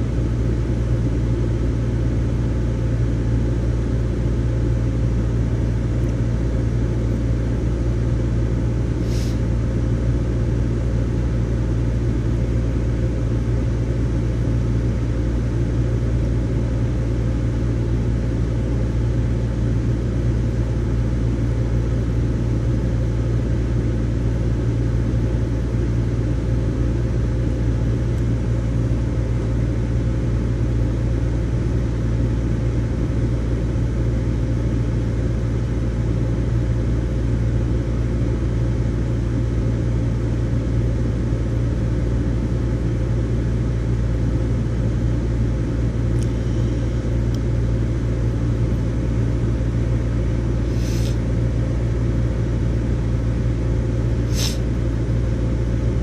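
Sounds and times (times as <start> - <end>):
faint constant hum: 0.0 - 56.0
steady low rumble: 0.0 - 56.0.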